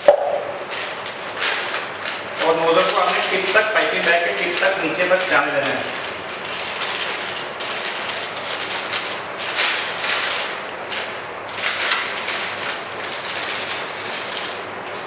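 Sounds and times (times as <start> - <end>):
plastic bag crinkling: 0.1 - 14.7.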